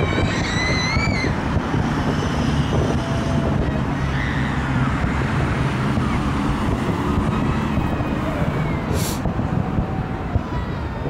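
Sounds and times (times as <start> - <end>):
distant fireworks rumble: 0.0 - 11.0.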